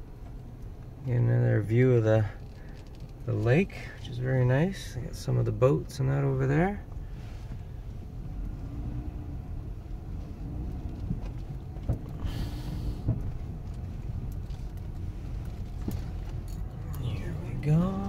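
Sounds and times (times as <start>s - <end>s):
engine and tyres rumbling: 0.0s - 18.0s.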